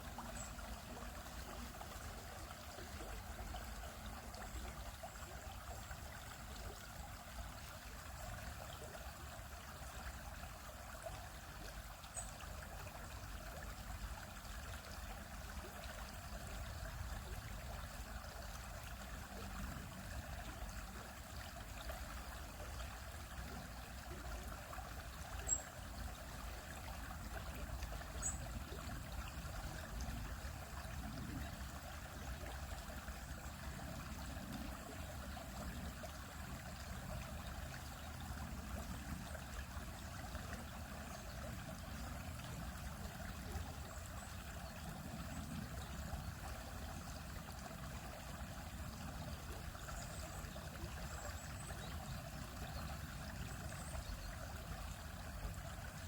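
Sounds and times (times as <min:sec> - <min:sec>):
stream flowing across rocks: 0:00.0 - 0:56.0.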